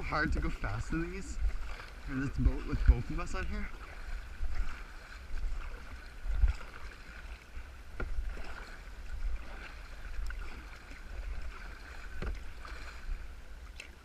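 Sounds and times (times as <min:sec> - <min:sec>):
wind rumble on microphone: 0:00.0 - 0:13.7
kayak paddles splashing: 0:00.0 - 0:14.0.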